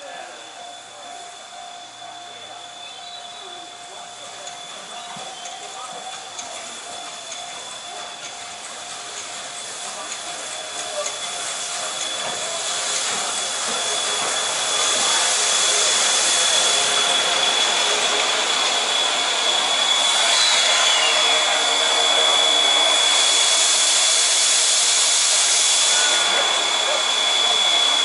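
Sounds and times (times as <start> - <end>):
thin high tone: 0.0 - 23.5
steam hissing from locomotive: 0.0 - 28.0.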